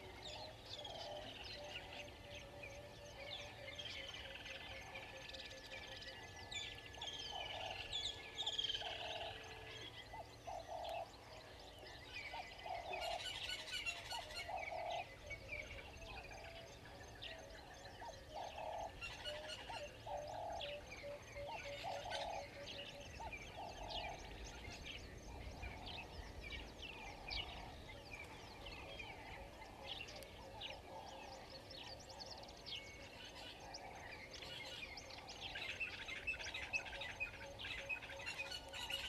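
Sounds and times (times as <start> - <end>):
wild birds chirping: 0.0 - 39.0.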